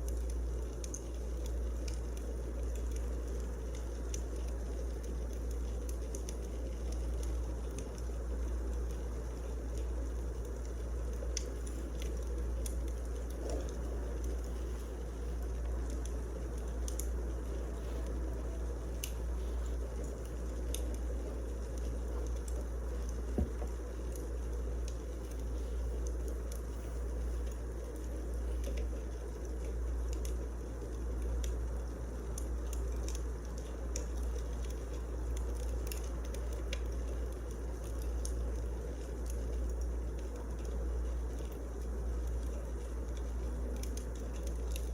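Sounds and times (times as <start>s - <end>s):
low fire rumble: 0.0s - 44.9s
wood fire crackling: 0.0s - 44.9s.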